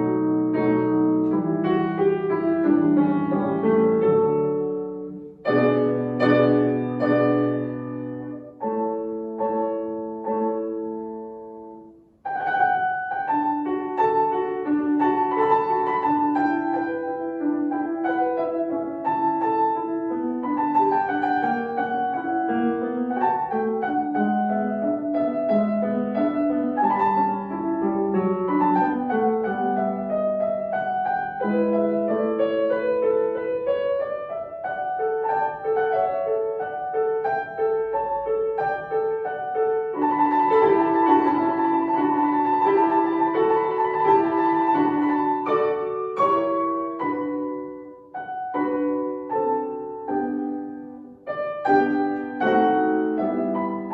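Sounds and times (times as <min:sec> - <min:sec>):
solo classical piano: 0:00.0 - 0:53.9.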